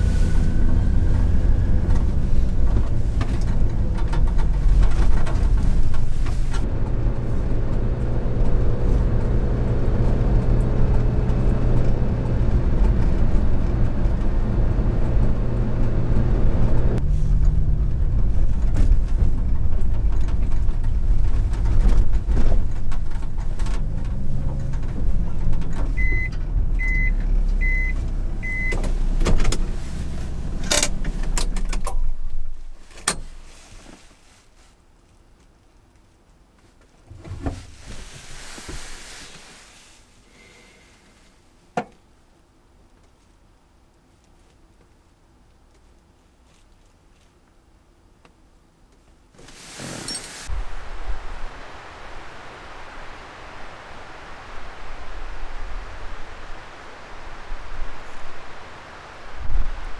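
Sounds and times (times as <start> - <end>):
truck engine and road noise: 0.0 - 35.6, 47.0 - 59.9.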